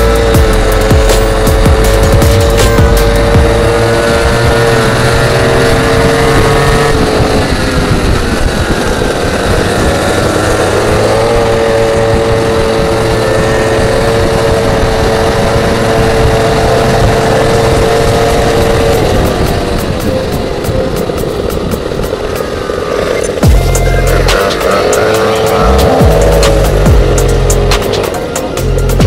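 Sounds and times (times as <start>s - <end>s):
small two-stroke engine revving: 0.0s - 29.0s.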